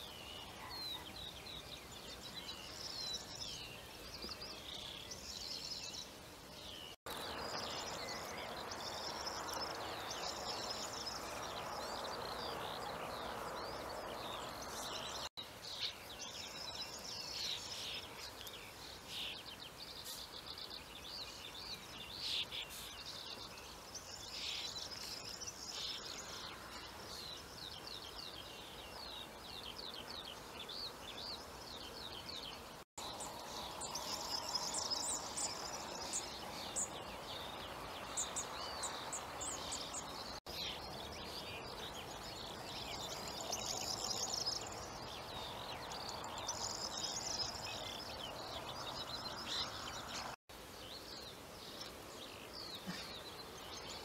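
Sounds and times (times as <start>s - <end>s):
faint outdoor hiss: 0.0s - 54.0s
songbirds chirping and trilling: 0.0s - 54.0s.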